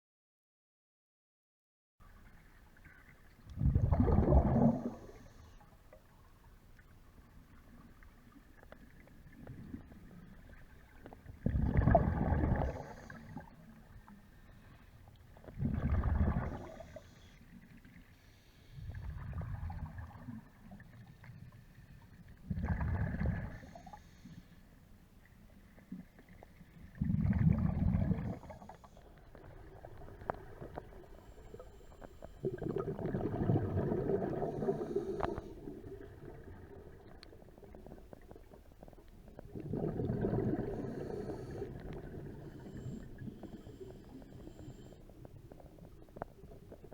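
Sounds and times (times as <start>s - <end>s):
gurgling exhaled bubbles underwater: 2.2s - 24.3s, 25.5s - 46.9s.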